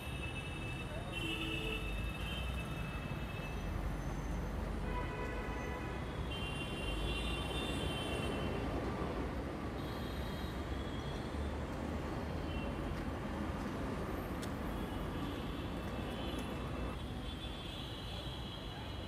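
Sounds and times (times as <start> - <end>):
traffic rumble and hiss: 0.0 - 19.0.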